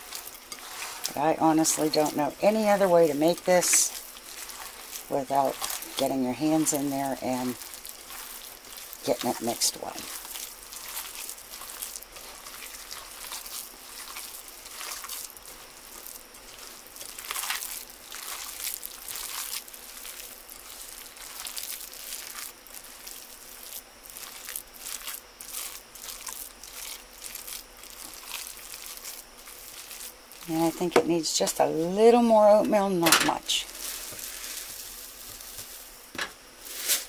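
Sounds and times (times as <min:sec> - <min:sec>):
wet squelching of meat mixture: 0:00.0 - 0:35.8.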